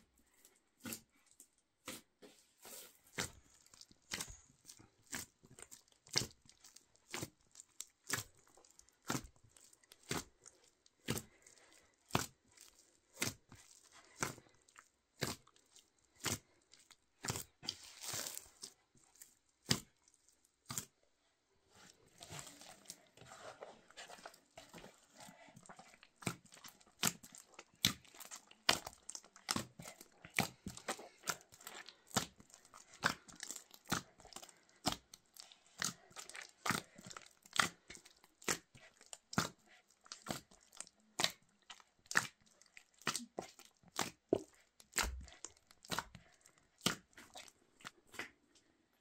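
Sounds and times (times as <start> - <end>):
hands kneading bread dough: 0.0 - 49.0.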